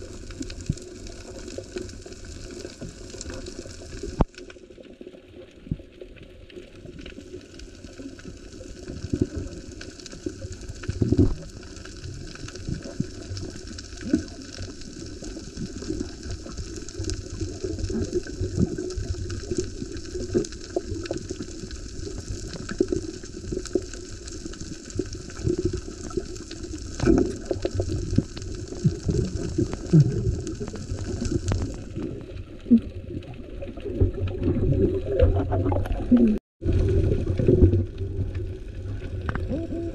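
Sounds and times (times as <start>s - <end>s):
muffled underwater rushing water: 0.0s - 39.9s.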